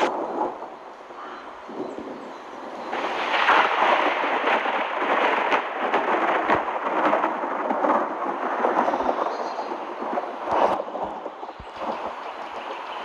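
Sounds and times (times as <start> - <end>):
thunder rolling: 0.0 - 12.2
rain: 0.0 - 13.0.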